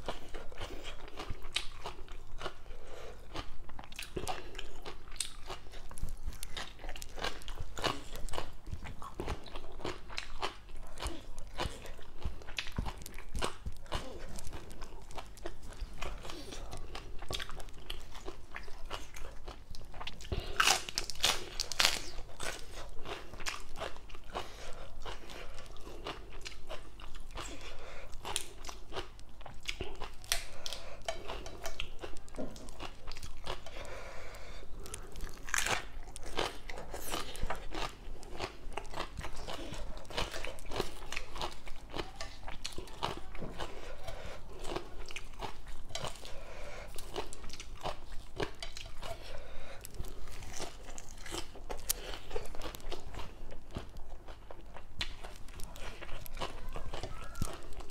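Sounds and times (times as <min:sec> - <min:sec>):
crunching and chewing vegetables: 0:00.0 - 0:57.9.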